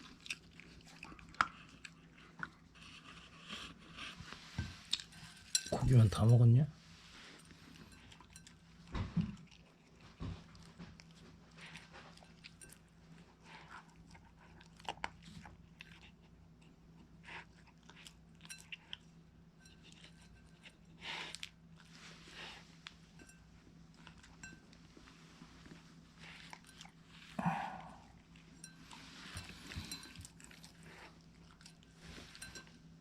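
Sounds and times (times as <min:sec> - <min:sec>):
dog chewing and crunching: 0:00.0 - 0:06.4, 0:07.4 - 0:32.9.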